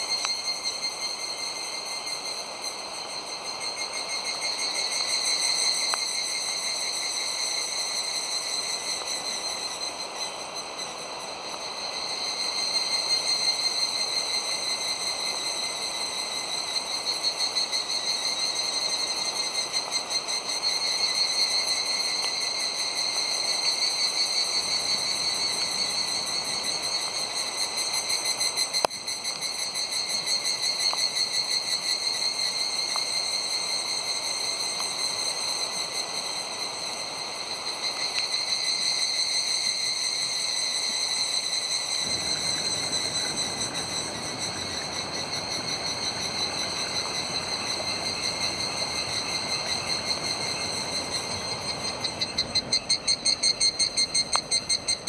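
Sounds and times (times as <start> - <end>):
cicadas droning: 0.0 - 55.0.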